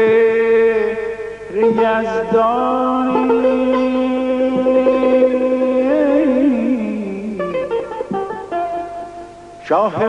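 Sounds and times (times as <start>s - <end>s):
man singing warbling notes: 0.0s - 8.9s, 9.6s - 10.0s
plucked string instrument: 0.0s - 10.0s.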